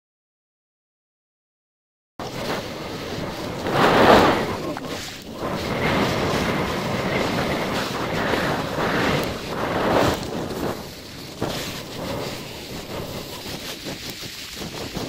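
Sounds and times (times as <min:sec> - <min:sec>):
sandboard hissing over sand: 0:02.2 - 0:15.0
wind on microphone: 0:02.2 - 0:15.0.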